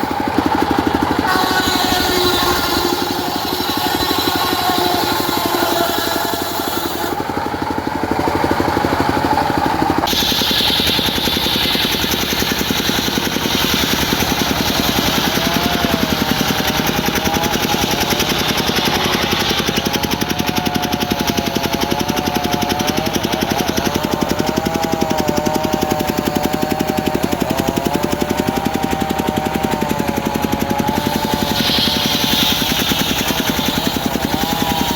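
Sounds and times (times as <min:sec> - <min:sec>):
circular saw cutting wood: 0:00.0 - 0:34.9
diesel engine pulsing: 0:00.0 - 0:34.9.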